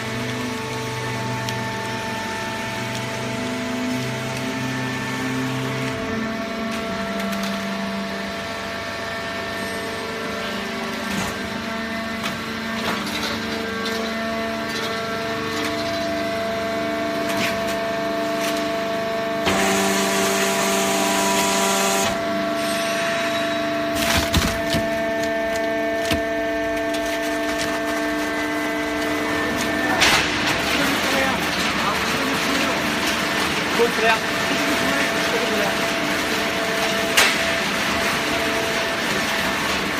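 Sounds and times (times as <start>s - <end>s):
baler machine whine: 0.0s - 39.9s.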